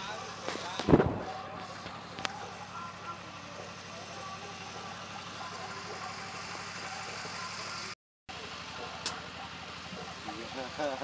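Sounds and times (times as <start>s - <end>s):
engine idling: 0.0s - 11.0s
faint voices: 0.0s - 11.0s.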